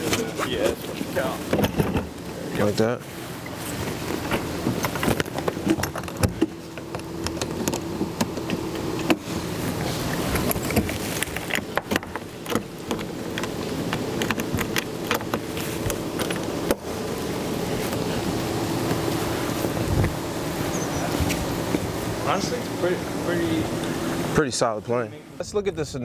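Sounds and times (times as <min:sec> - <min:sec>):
clicks and knocks of engine cowling: 0:00.0 - 0:22.8
steady hum: 0:00.0 - 0:26.0.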